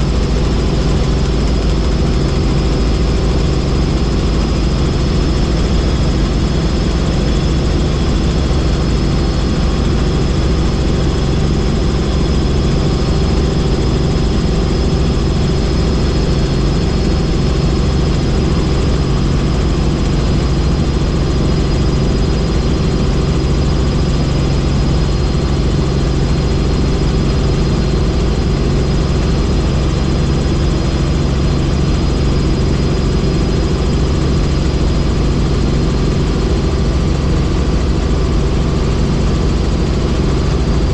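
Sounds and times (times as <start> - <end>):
helicopter drone and whine: 0.0 - 40.9.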